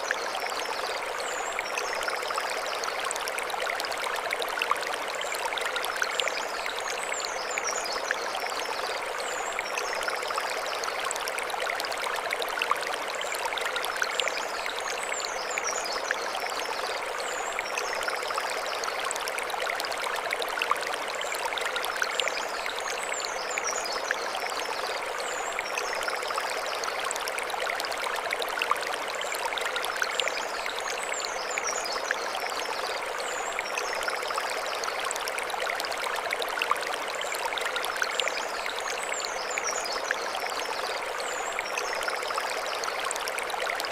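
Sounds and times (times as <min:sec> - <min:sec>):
stream flowing over stones: 0:00.0 - 0:43.9.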